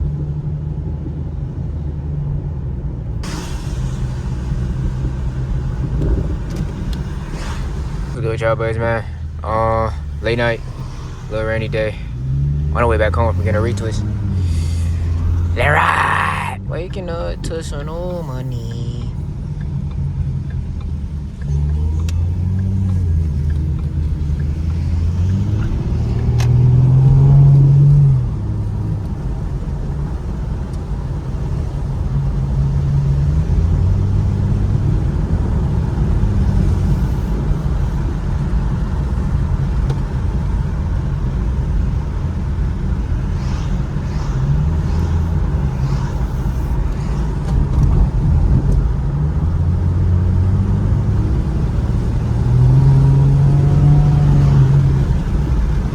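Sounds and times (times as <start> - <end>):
car engine revving: 0.0 - 55.9
tyre noise on wet road: 0.8 - 55.9.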